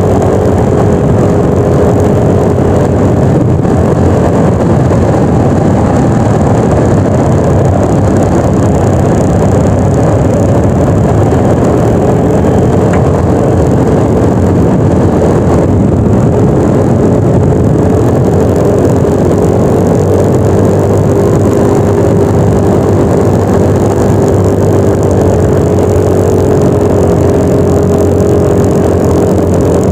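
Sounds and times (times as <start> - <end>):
scooter engine drone: 0.0 - 29.9
wind rushing on microphone: 0.0 - 29.9.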